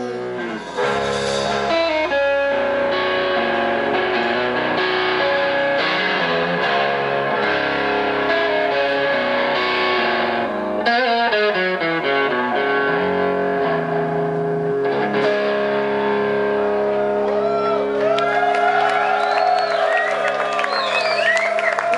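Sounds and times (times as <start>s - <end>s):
distorted electric guitar: 0.0s - 18.4s
live rock band playing: 0.0s - 18.8s.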